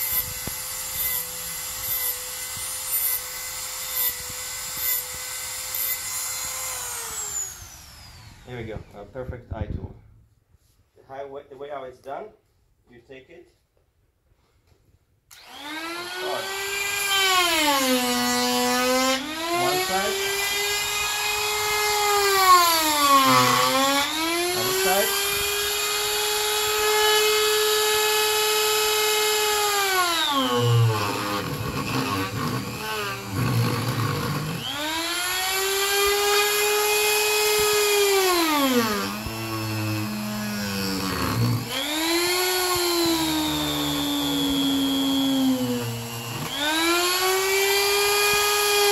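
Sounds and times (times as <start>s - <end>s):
die grinder carving wood: 0.0s - 8.8s, 15.3s - 48.9s.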